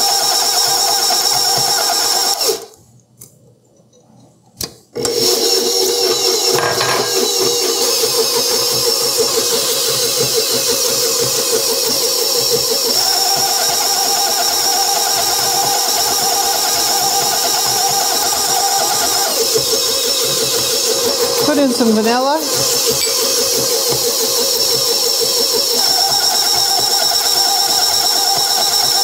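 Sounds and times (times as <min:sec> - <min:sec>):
stand mixer motor running: 0:00.0 - 0:02.7, 0:05.0 - 0:29.0.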